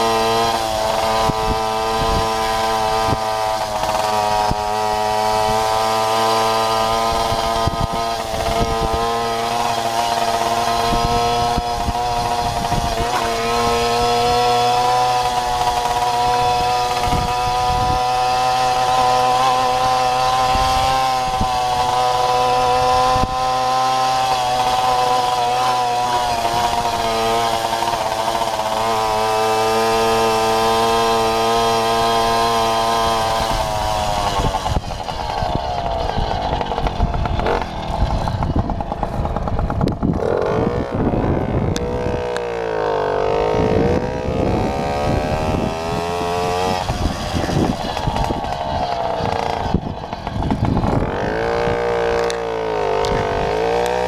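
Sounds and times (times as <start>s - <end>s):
moped engine buzzing: 0.0s - 54.0s.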